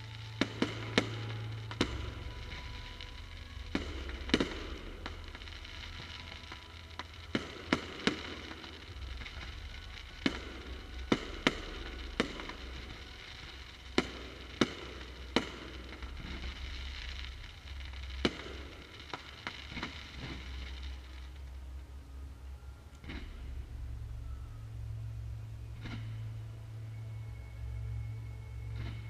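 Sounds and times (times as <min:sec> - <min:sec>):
fireworks bangs: 0:00.0 - 0:24.6
steady background noise: 0:00.0 - 0:29.0.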